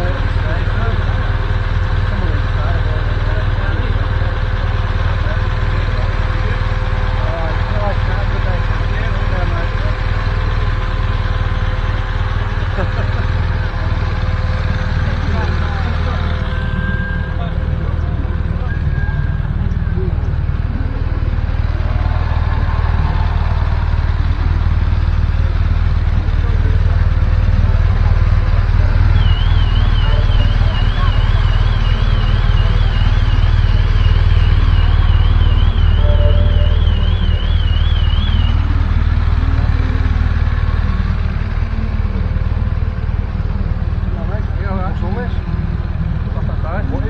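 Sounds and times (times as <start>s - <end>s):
motorcycle engines idling: 0.0s - 47.0s.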